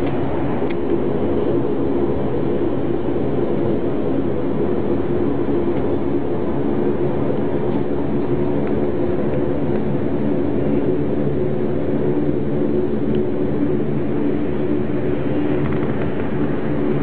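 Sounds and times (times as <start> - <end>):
turboprop engine hum in cabin: 0.0 - 17.0.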